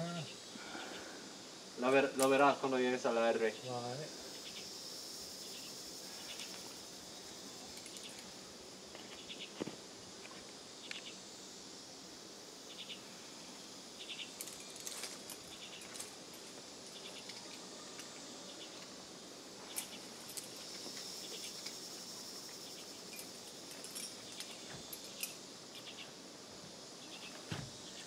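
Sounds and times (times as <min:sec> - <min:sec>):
high insect drone: 0:00.0 - 0:28.0
insect chirps: 0:00.0 - 0:28.0.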